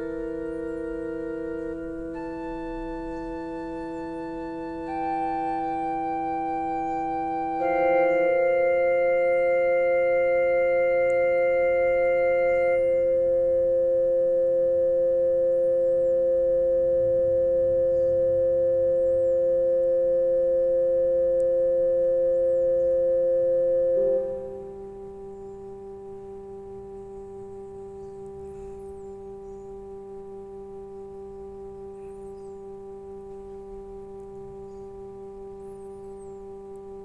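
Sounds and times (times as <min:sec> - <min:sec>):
electronic keyboard playing: 0:00.0 - 0:37.0.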